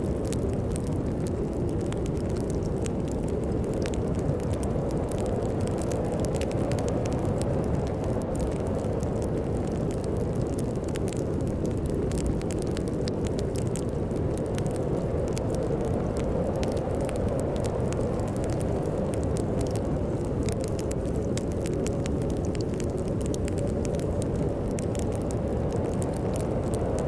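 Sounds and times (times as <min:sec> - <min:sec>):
storm wind rumbling: 0:00.0 - 0:27.0
wood fire crackling and popping: 0:00.0 - 0:27.0.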